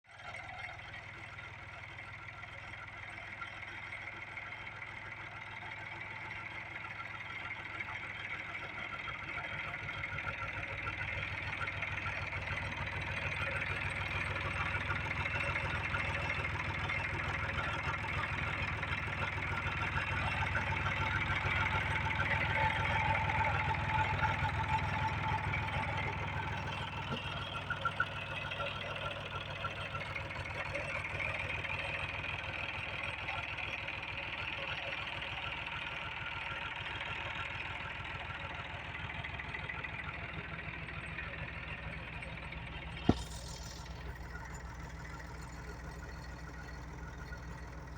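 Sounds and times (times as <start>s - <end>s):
diesel engine idling: 0.1s - 47.9s.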